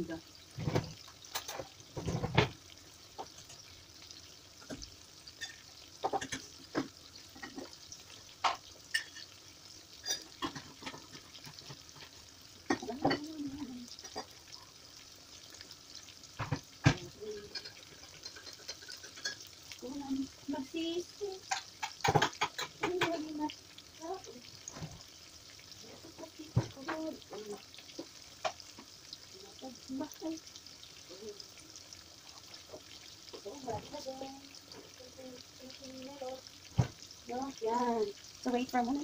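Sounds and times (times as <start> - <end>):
oil popping and crackling: 0.0 - 39.0
oil sizzling in a pan: 0.0 - 39.0.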